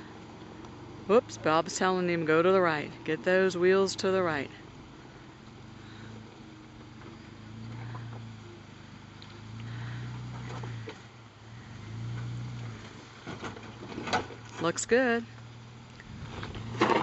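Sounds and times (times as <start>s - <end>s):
distant vehicle engine rumbling: 0.0s - 17.0s.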